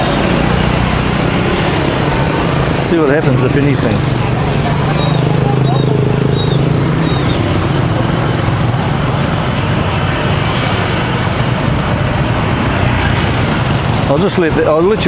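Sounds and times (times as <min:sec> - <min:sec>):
passing vehicles: 0:00.0 - 0:15.0.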